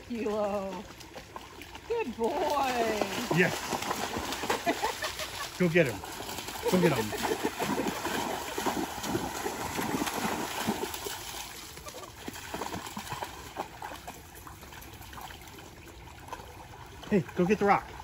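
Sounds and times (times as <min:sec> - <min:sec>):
dogs splashing through water: 0:00.0 - 0:18.0.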